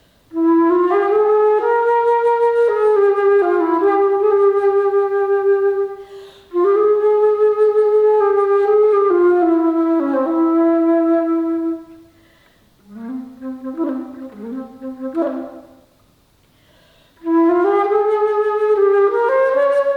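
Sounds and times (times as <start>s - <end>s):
solo alto flute: 0.0s - 12.2s, 12.8s - 16.0s, 17.2s - 19.9s.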